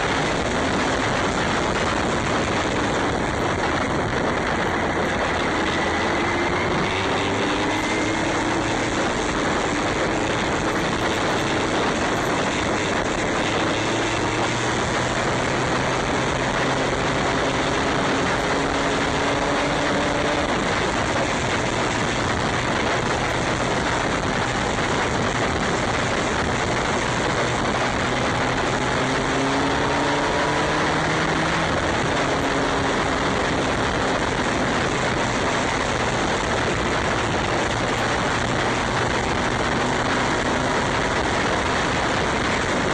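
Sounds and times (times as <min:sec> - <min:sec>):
motorcycle engine revving: 0:00.0 - 0:42.9
wind rushing on microphone: 0:00.0 - 0:42.9.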